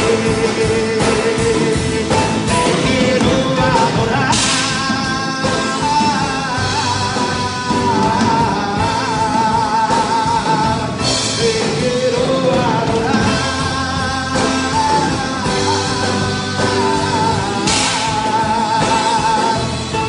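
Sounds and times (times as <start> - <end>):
drums: 0.0 - 20.0
electric guitar: 0.0 - 20.0
keyboard: 0.0 - 20.0
person singing long notes: 0.0 - 20.0.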